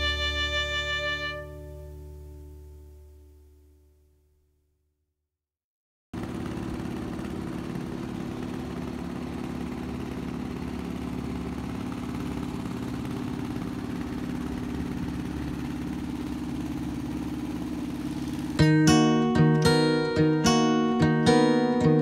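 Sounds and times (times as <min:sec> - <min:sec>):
boat engine drone: 0:00.0 - 0:03.7, 0:06.2 - 0:22.0.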